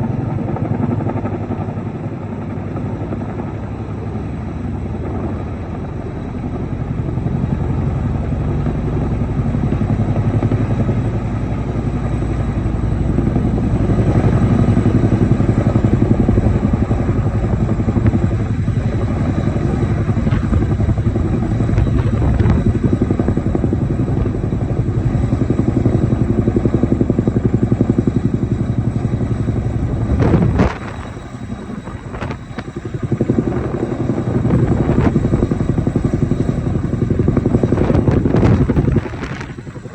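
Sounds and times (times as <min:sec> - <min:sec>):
helicopter rotor blades beating: 0:00.0 - 0:39.9.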